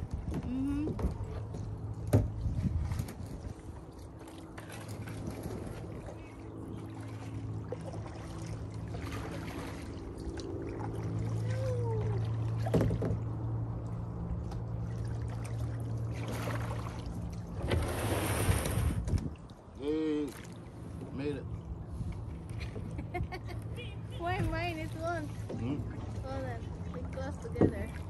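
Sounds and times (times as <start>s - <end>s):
low motor hum: 0.0s - 28.0s
paddles splashing: 0.0s - 28.0s.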